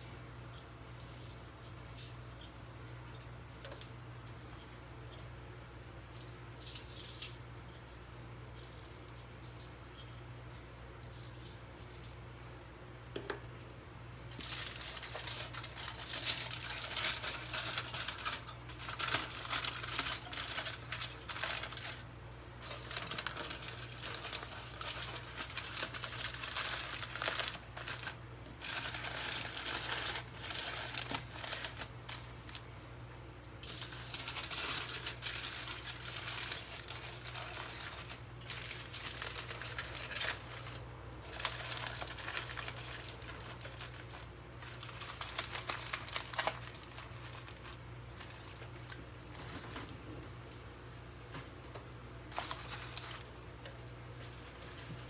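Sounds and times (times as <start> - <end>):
aluminium foil crinkling: 0.0 - 5.2, 6.0 - 10.2, 11.0 - 32.8, 33.4 - 50.0, 51.7 - 55.0.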